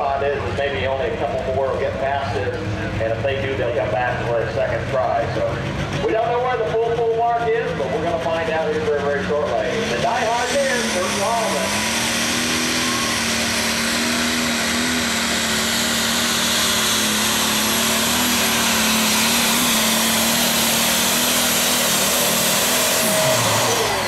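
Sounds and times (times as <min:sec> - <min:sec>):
diesel engine at high revs: 0:00.0 - 0:24.0.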